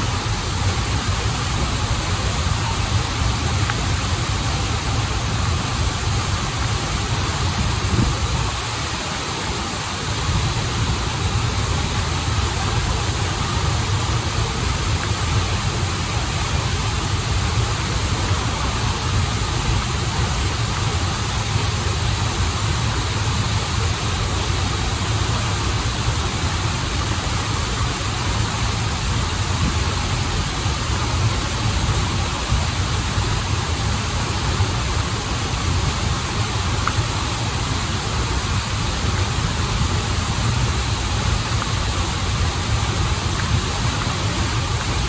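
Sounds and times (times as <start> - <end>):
waterfall and stream running: 0.0 - 45.0.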